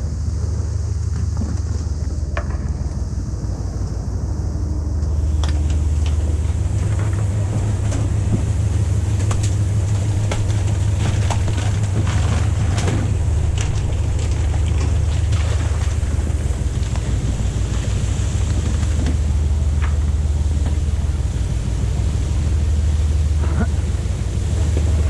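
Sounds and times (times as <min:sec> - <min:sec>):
boat engine humming: 0:00.0 - 0:25.0
wind and water rushing: 0:00.0 - 0:25.0.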